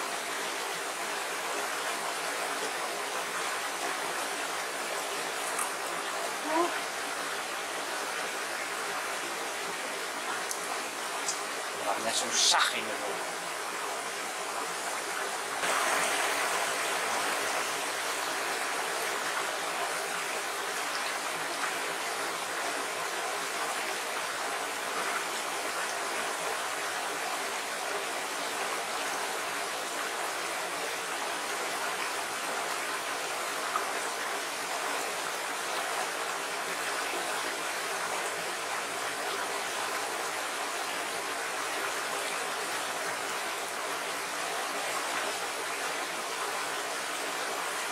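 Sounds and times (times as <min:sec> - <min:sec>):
stream rushing over stones: 0:00.0 - 0:47.9.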